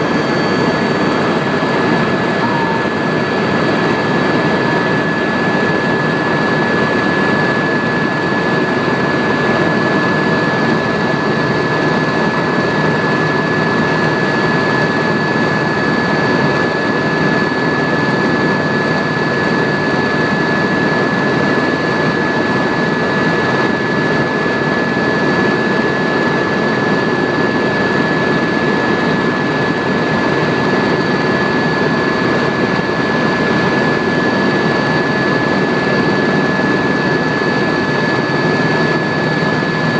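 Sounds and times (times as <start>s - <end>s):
helicopter engine and rotor rush: 0.0s - 39.9s
high turbine whine: 0.0s - 39.9s.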